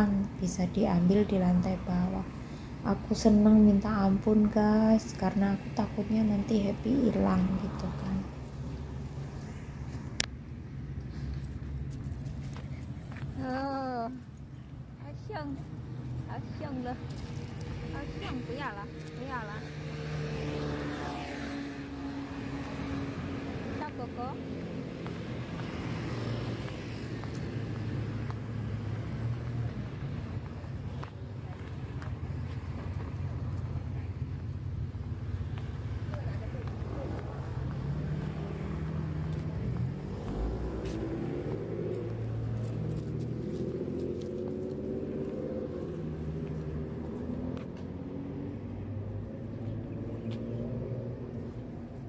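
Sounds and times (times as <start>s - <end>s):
vehicle engine humming: 0.0s - 52.0s.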